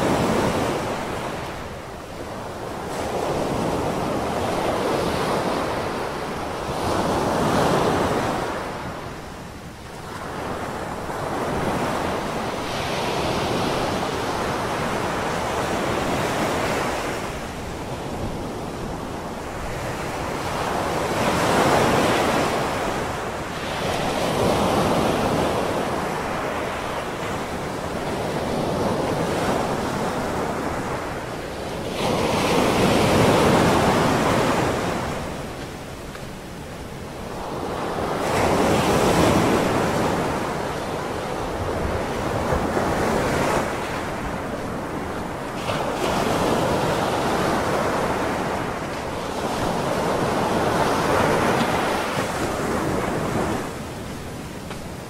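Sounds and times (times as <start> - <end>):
ocean waves crashing on beach: 0.0 - 55.0.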